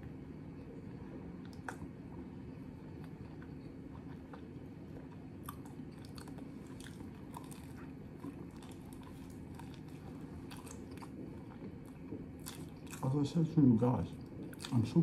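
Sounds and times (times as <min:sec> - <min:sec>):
steady low hum: 0:00.0 - 0:15.0
crunching and chewing sandwich: 0:00.5 - 0:13.4, 0:14.2 - 0:15.0.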